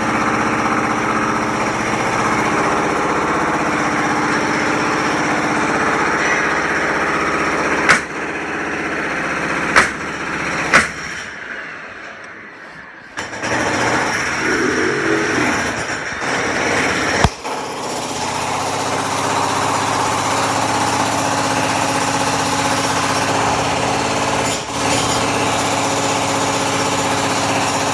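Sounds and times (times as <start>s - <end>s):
construction machine engine: 0.0s - 27.9s.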